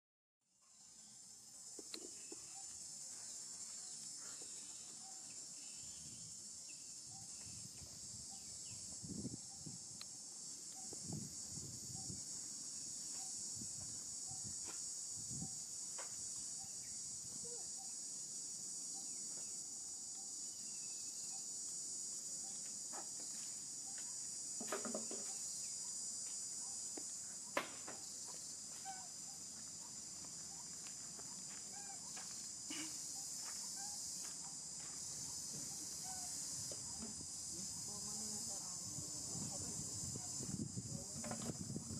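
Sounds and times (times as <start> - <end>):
insects chorus: 0.6 - 41.9.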